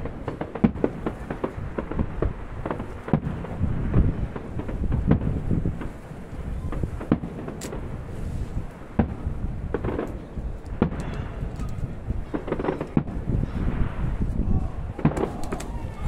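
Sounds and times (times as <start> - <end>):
firework shells bursting: 0.0 - 14.3, 14.9 - 15.8
steady low rumble: 0.0 - 16.0.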